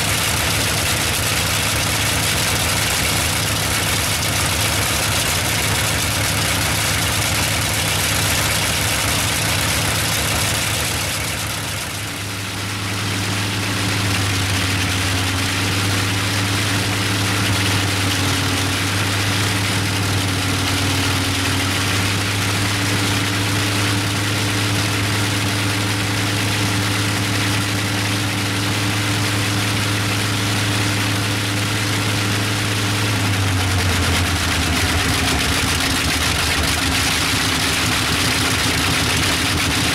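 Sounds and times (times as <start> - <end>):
radial aero engine droning: 0.0 - 39.9.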